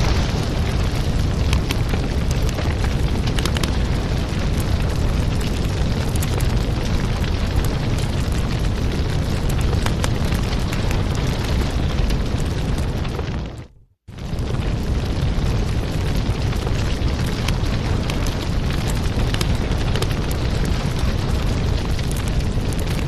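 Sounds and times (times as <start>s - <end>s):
fireplace fire crackling: 0.0s - 23.0s.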